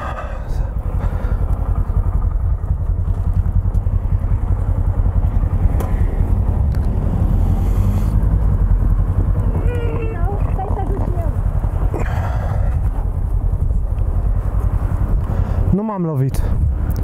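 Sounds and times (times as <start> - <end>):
motorcycle engine idling: 0.0 - 7.1, 7.9 - 16.7.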